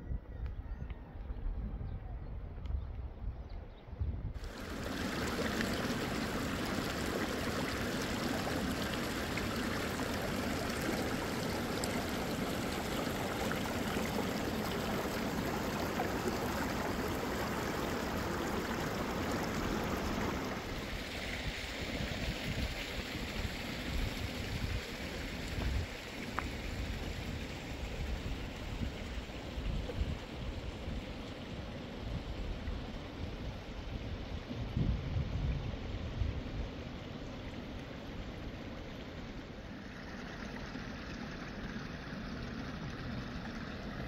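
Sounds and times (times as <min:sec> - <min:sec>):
running water rushing: 0:04.4 - 0:44.0.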